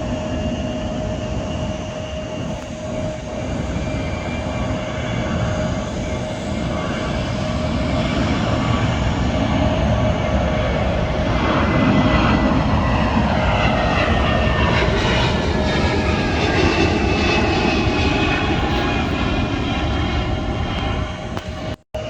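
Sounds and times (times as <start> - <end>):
jet airliner engines roaring past: 0.0 - 22.0.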